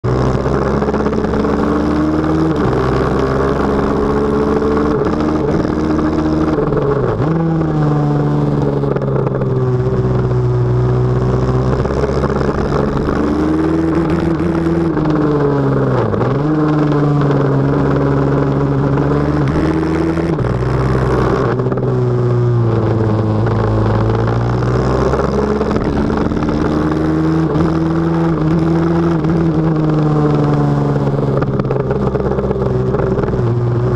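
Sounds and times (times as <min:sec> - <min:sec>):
pit bike engine revving: 0:00.2 - 0:10.3, 0:11.0 - 0:33.9.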